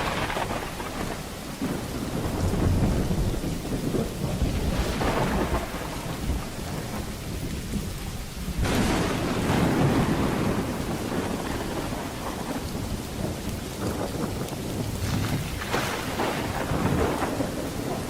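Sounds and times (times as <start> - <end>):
thunder peal: 0.0 - 7.1, 8.5 - 18.0
rolling thunder: 0.0 - 18.0
steady rain: 0.0 - 18.0.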